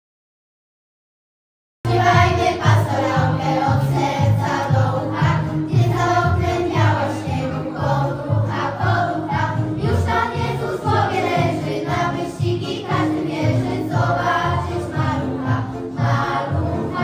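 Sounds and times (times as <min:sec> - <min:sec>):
girls choir singing in unison: 0:01.9 - 0:17.0
musical accompaniment with bass line: 0:01.9 - 0:17.0.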